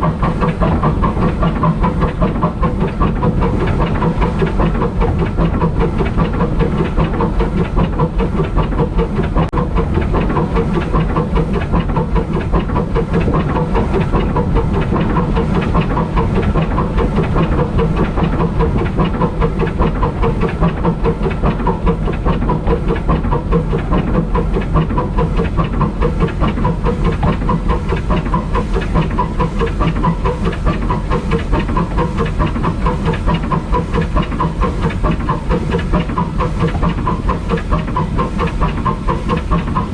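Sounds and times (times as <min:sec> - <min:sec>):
train wheels clattering over track: 0:00.0 - 0:39.9.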